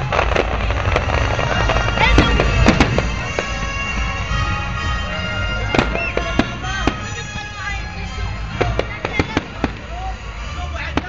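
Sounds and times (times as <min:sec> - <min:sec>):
fireworks bangs and cracks: 0:00.0 - 0:11.0
music playing: 0:00.0 - 0:11.0.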